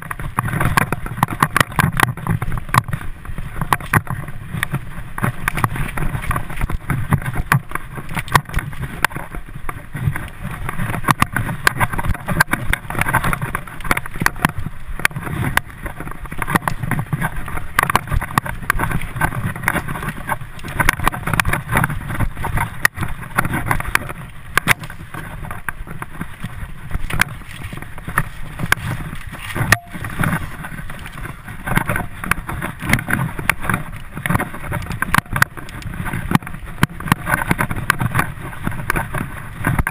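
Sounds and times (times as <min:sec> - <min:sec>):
bike rattling and knocking: 0:00.0 - 0:39.9
bike riding rumble: 0:00.0 - 0:39.9.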